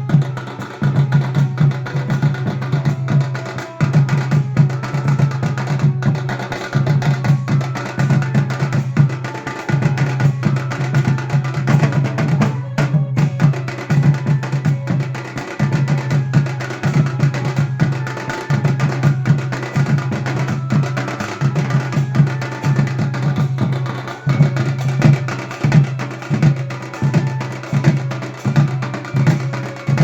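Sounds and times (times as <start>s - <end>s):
fast dense drumming: 0.0s - 30.0s.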